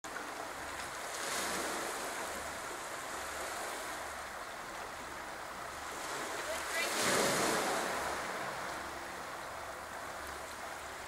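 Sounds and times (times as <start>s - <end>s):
waves washing onto stony beach: 0.1s - 11.0s.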